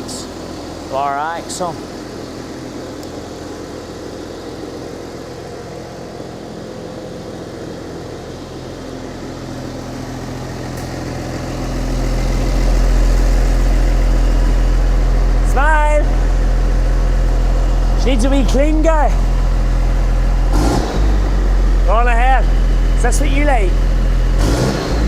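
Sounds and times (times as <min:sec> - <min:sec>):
tractor diesel engine idling: 0:00.0 - 0:25.0.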